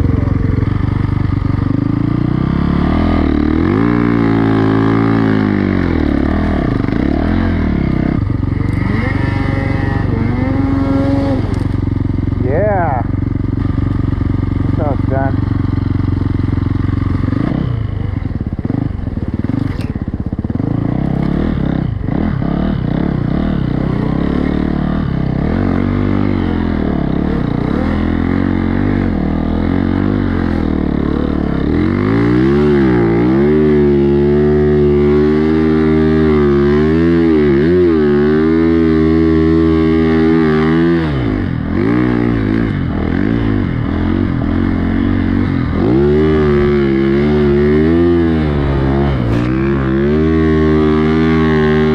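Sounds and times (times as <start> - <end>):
snowbike engine revving: 0.0 - 51.9.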